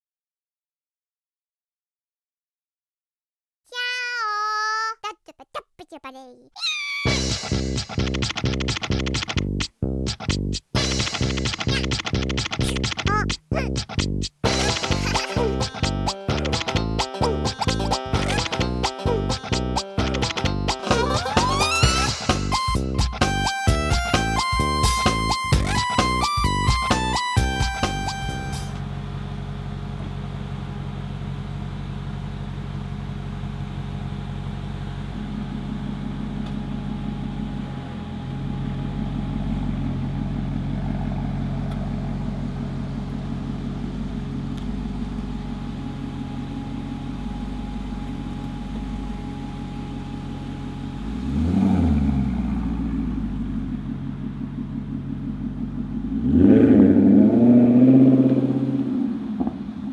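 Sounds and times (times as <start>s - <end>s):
car engine idling and revving: 7.1s - 14.9s, 15.8s - 59.9s.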